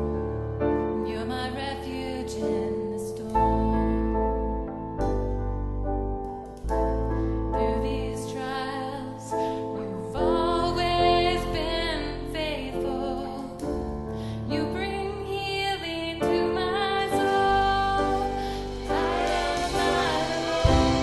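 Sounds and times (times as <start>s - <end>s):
sustained keyboard chords: 0.0s - 21.0s.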